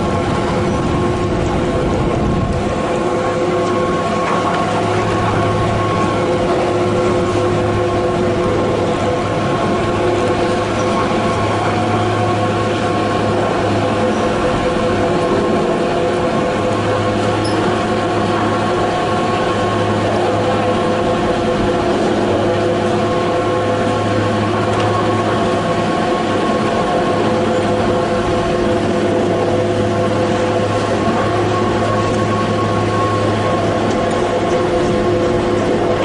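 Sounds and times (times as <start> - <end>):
chairlift machinery humming: 0.0 - 36.0.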